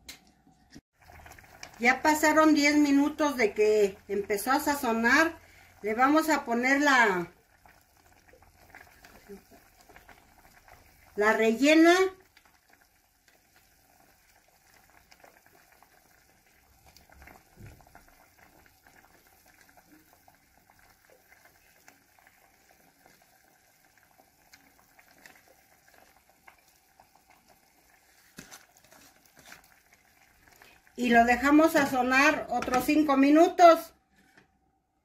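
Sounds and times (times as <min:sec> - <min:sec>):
salsa bubbling in a pot: 0:00.1 - 0:33.9.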